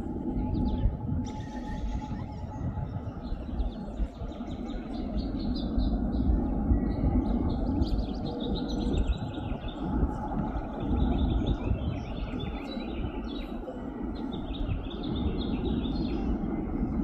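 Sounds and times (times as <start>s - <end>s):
songbirds chirping: 0.0s - 17.0s
steady low rumble: 0.0s - 17.0s.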